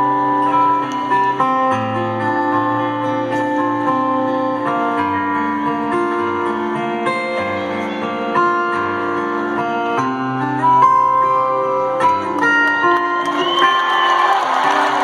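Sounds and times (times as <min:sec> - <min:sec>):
acoustic guitar playing chords: 0:00.0 - 0:15.0.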